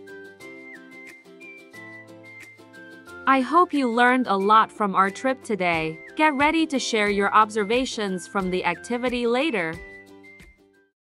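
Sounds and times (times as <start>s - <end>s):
gentle background music: 0.0s - 10.9s.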